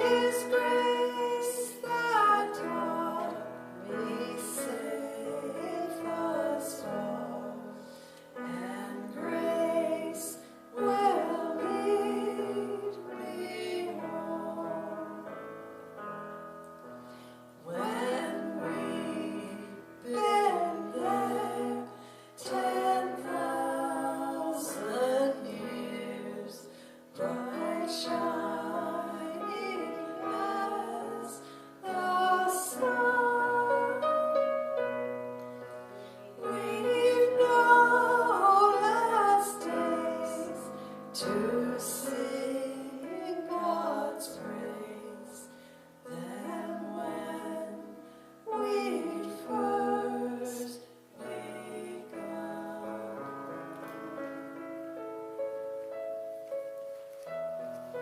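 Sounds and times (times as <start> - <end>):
slow hymn melody: 0.0 - 58.0
soft keyboard accompaniment: 0.0 - 58.0.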